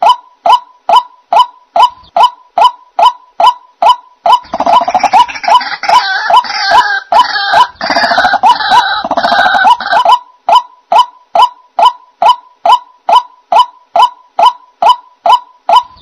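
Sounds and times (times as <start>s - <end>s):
harsh croaking calls: 0.0s - 16.0s.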